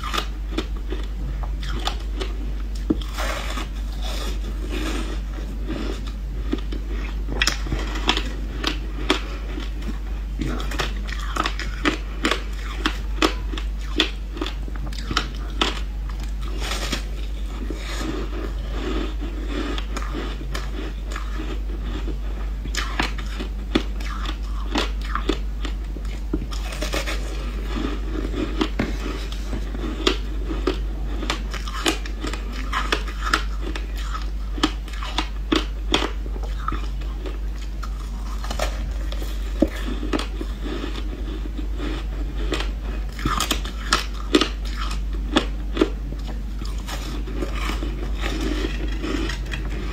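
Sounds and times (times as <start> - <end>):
steady low hum: 0.0 - 49.9
crunching ice: 3.0 - 22.1, 22.7 - 45.9, 46.6 - 49.9.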